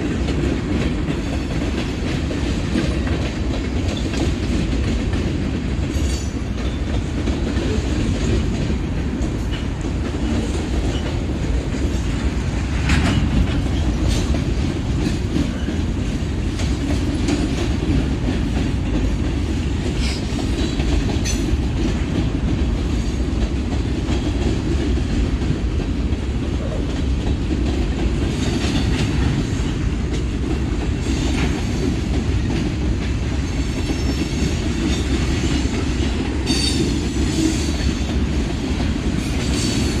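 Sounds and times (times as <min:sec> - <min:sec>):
freight train rumbling past: 0:00.0 - 0:40.0
wheels clacking over rail joints: 0:00.0 - 0:40.0.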